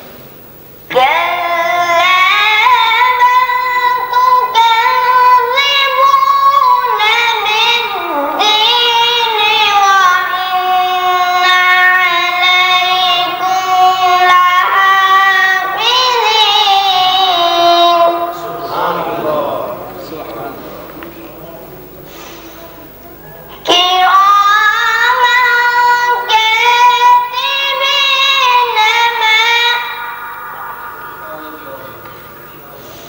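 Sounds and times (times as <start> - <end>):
boy reciting melodically: 0.8 - 21.6, 22.7 - 33.0.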